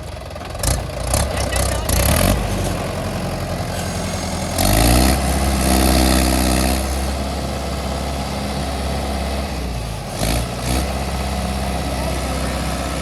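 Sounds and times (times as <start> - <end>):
heavy diesel engine revving: 0.0 - 13.0.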